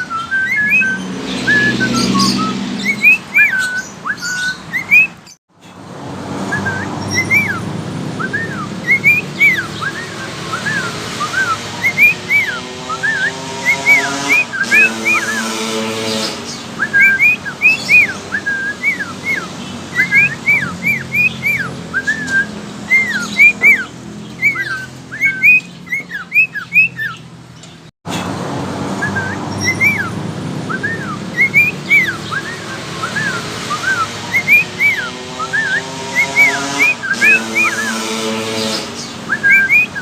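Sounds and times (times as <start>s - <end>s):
budgerigar whistling: 0.0s - 5.4s, 6.5s - 27.3s, 29.0s - 40.0s.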